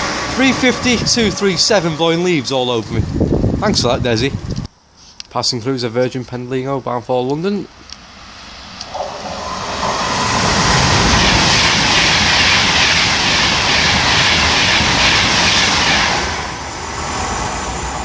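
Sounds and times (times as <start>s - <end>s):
electric train passing at speed: 0.0s - 4.6s, 7.6s - 18.0s.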